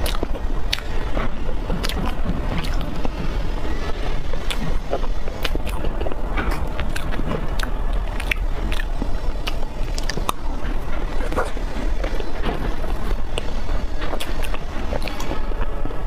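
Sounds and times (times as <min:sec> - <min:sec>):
close chewing and mouth sounds: 0:00.0 - 0:16.0
steady low rumble: 0:00.0 - 0:16.0.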